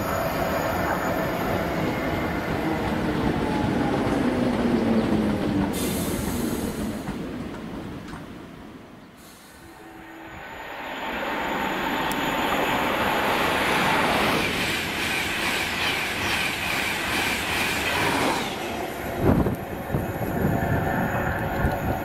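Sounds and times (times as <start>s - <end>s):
express train passing at speed: 0.0s - 22.0s.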